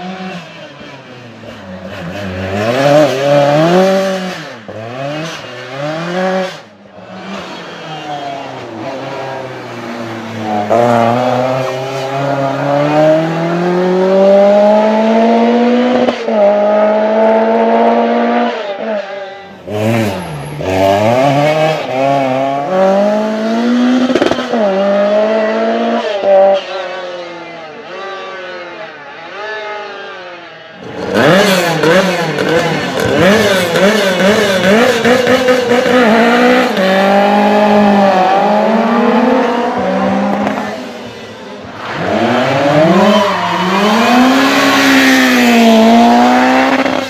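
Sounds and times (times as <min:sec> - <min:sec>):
rally car engine at full throttle: 0:00.0 - 0:47.0.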